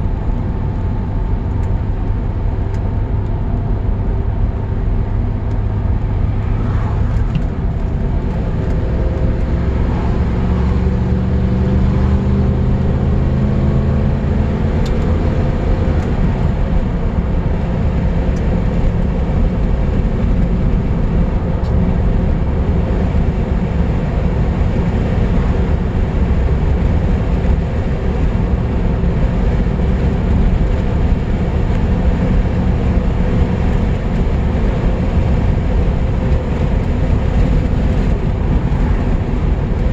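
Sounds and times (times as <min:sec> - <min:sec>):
car engine accelerating: 0:00.0 - 0:39.9
road noise: 0:00.0 - 0:39.9.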